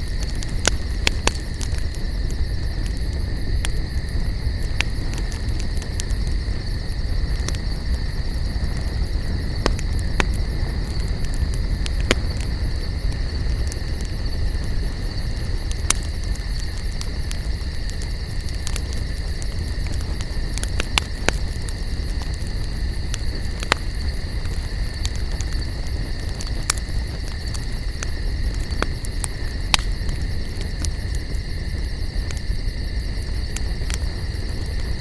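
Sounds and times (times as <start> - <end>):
campfire crackling and popping: 0.0 - 35.0
high insect trill: 0.0 - 35.0
low rumble of flame: 0.0 - 35.0.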